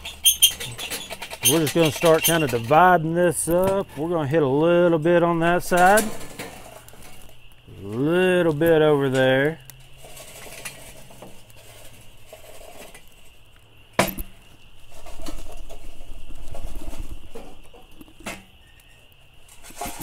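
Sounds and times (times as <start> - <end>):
charcoal rattling into grill: 0.0 - 3.9, 5.4 - 18.6, 19.4 - 20.0.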